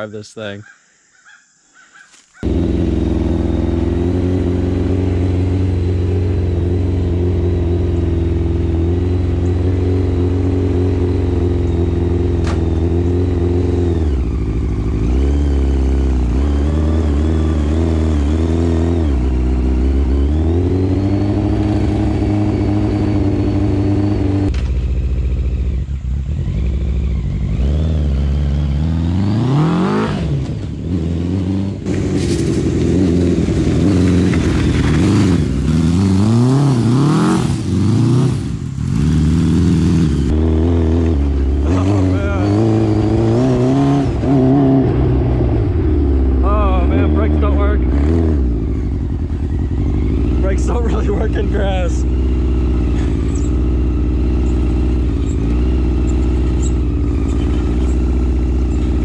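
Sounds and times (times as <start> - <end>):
motorcycle engine revving: 2.4 - 59.0.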